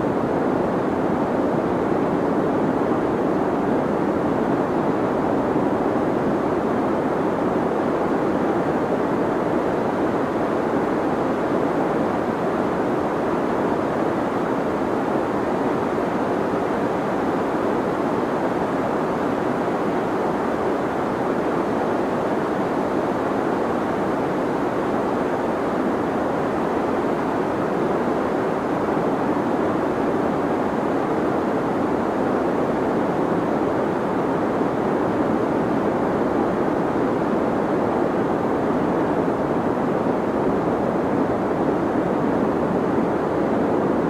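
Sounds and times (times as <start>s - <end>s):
deep white noise hiss: 0.0s - 44.0s.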